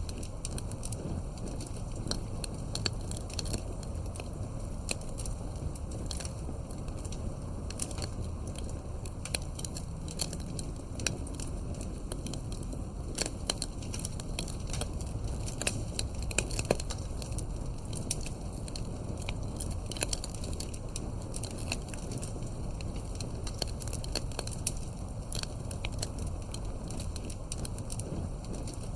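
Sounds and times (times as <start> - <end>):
campfire crackling and popping: 0.0 - 28.9.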